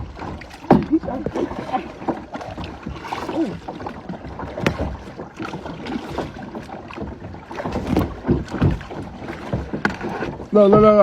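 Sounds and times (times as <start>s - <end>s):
kayak paddles splashing water: 0.0s - 11.0s.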